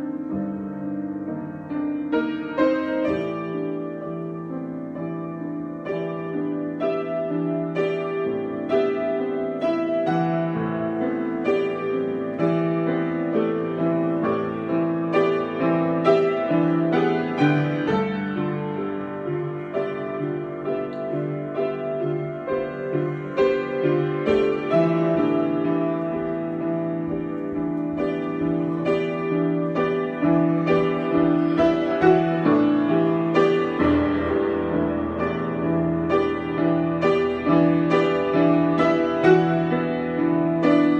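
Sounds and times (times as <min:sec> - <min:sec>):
solo piano improvisation: 0:00.0 - 0:40.9.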